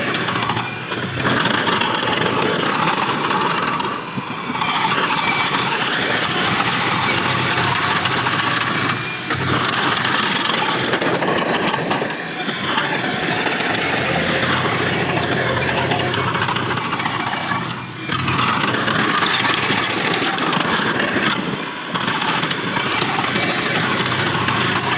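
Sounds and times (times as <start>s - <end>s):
heavy earthmoving machinery running: 0.0s - 24.9s.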